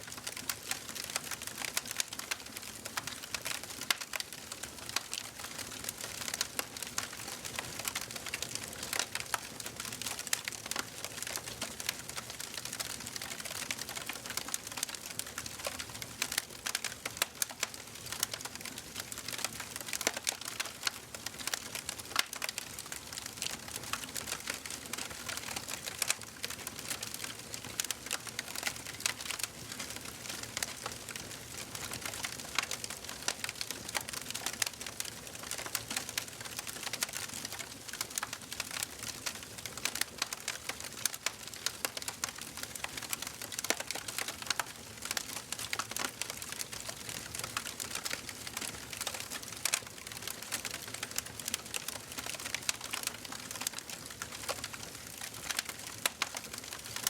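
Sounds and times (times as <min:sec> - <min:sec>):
fire crackling and popping: 0:00.1 - 0:57.0.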